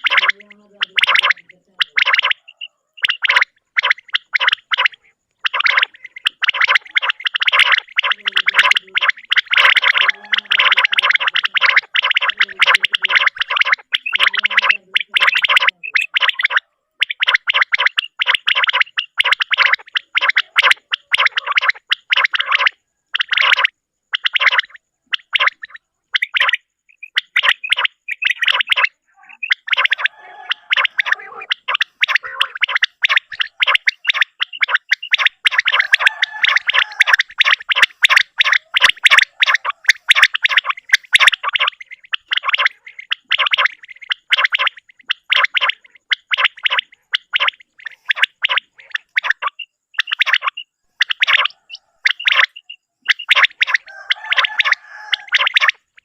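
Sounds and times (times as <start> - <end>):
fainter steady bird call: 0.0 - 56.0
quail calling: 0.0 - 56.0.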